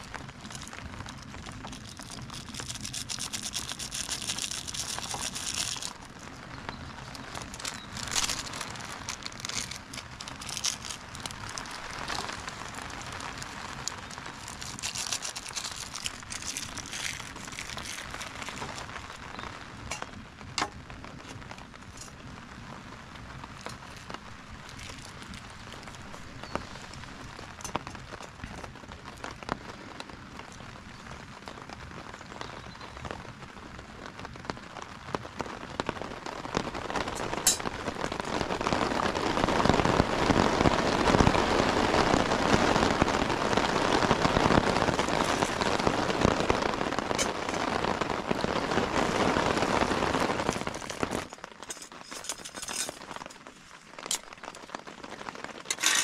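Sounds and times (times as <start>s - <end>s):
rain pattering on tent fabric: 0.0s - 56.0s.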